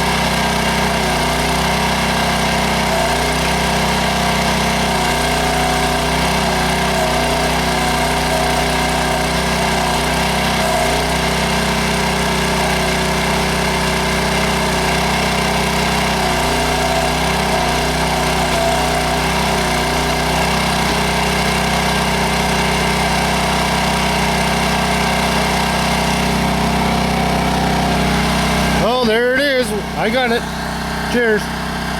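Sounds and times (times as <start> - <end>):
small backhoe engine running: 0.0 - 31.9.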